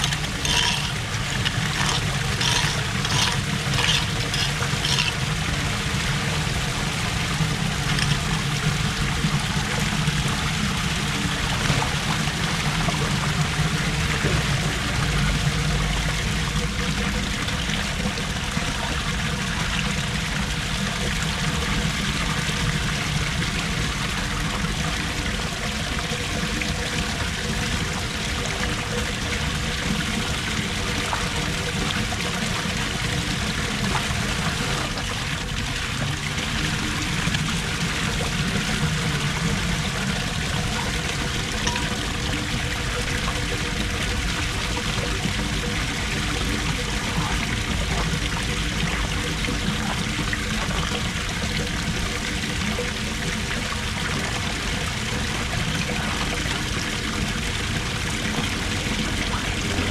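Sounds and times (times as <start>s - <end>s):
water pouring down storm drain: 0.0s - 59.9s.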